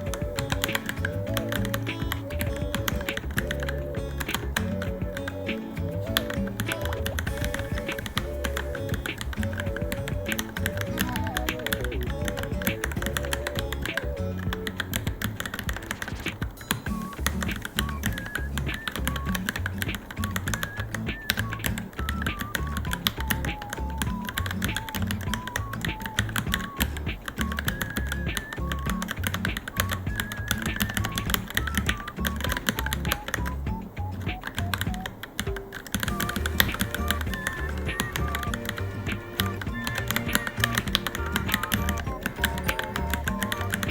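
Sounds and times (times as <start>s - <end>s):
background music: 0.0s - 43.9s.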